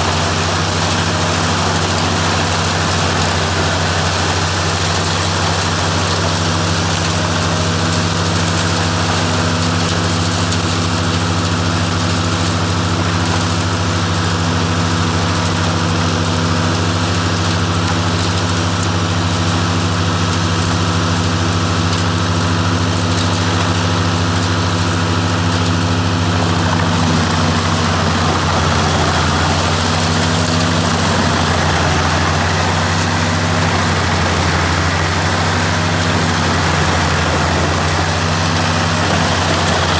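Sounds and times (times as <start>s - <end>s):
tractor diesel engine running: 0.0s - 39.9s
wood chipper grinding: 0.0s - 39.9s.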